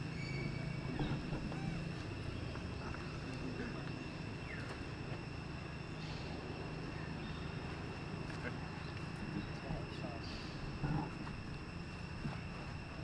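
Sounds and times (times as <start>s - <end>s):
high-pitched insect drone: 0.0s - 13.0s
low steady hum: 0.0s - 13.0s.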